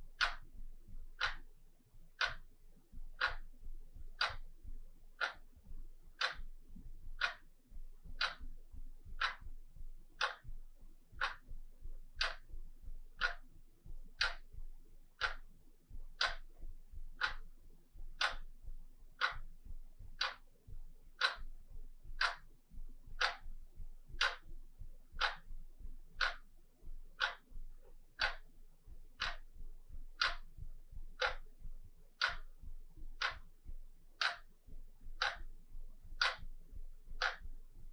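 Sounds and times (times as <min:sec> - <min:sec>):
wall clock ticking: 0:00.0 - 0:37.9.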